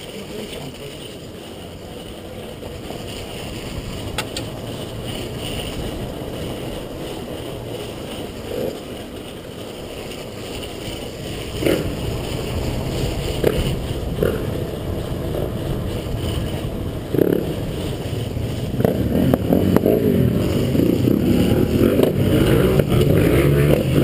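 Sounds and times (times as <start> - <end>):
distant motorcycle engines rumbling: 0.0 - 24.0
wind buffeting microphone: 0.0 - 24.0.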